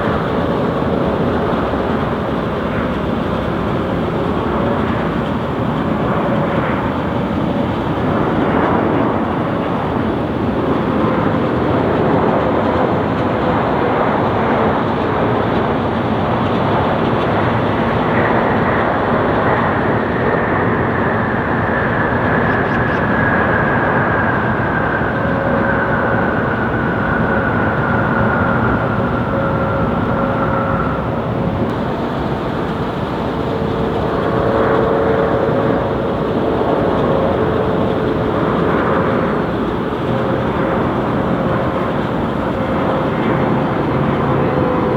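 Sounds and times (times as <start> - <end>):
jet engines passing: 0.0 - 44.9.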